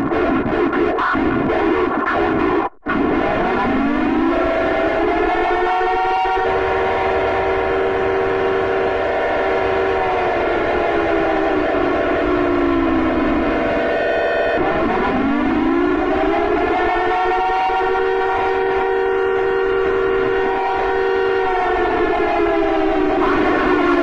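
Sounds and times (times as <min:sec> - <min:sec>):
civil defense siren wailing: 0:03.6 - 0:24.0.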